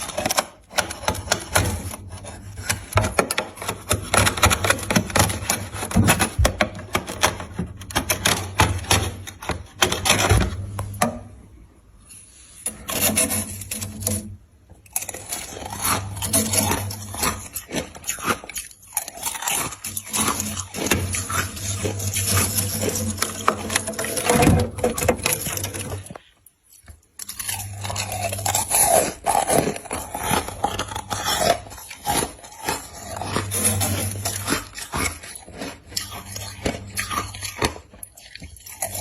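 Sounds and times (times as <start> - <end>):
ice being chewed: 0.0 - 11.0, 12.1 - 39.0.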